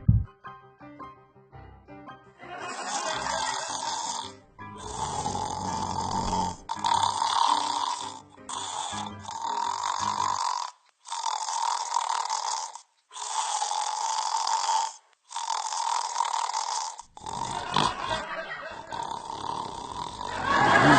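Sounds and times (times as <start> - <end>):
breathy snoring: 2.7 - 20.9.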